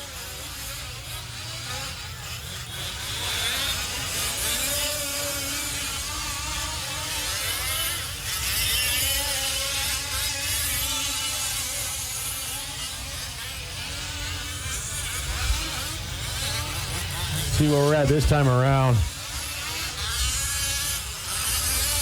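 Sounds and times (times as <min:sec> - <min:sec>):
rc truck engines buzzing: 0:00.0 - 0:22.0.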